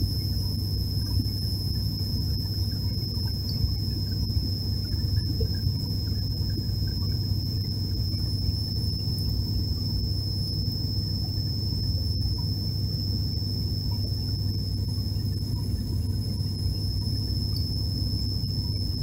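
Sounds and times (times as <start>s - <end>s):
turboprop cabin drone: 0.0s - 19.0s.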